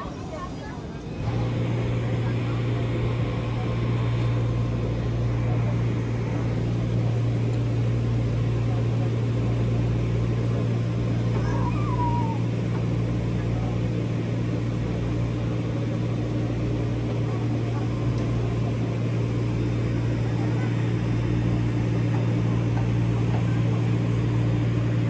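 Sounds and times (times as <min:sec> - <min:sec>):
electric train electrical hum: 0:00.0 - 0:25.0.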